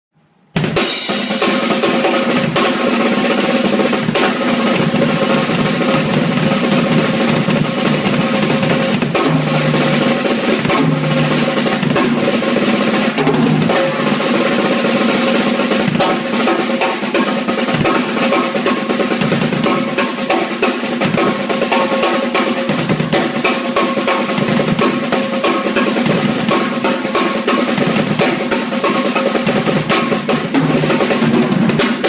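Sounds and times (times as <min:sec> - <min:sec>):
snare drum rolls: 0:00.6 - 0:32.0.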